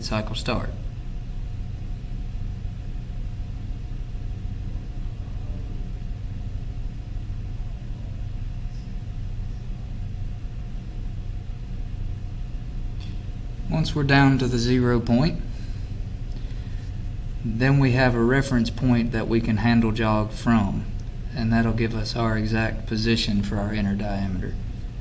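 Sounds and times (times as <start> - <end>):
faint steady whine: 0.0 - 25.0
machinery humming: 0.0 - 25.0.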